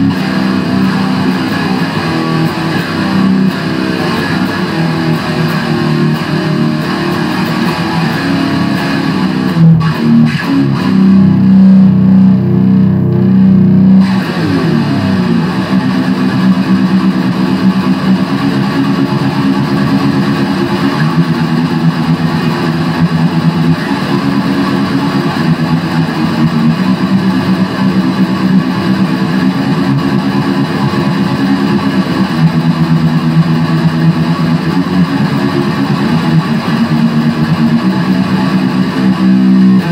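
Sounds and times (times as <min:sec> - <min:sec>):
electric guitar heavy metal riffs: 0:00.0 - 0:39.9.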